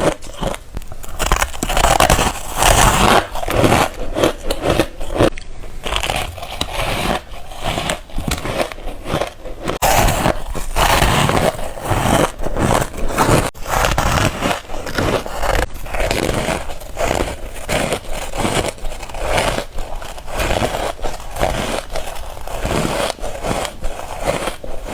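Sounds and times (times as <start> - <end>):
chewing crunchy ice: 0.0 - 24.9.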